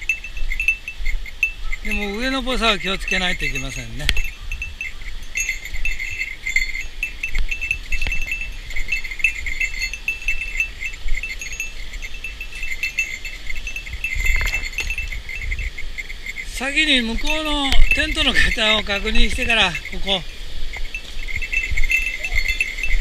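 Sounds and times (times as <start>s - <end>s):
high-pitched chirping trills: 0.0s - 23.0s.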